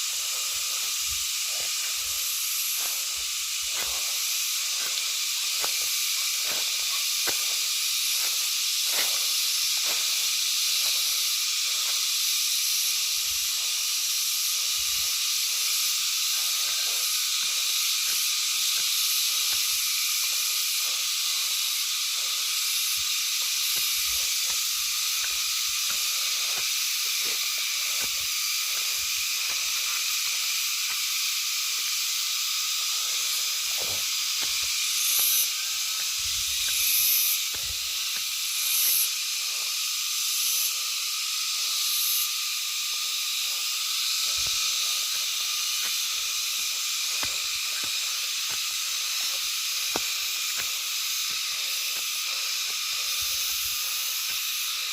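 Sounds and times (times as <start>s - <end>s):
shrill chorus of night insects: 0.0s - 54.9s.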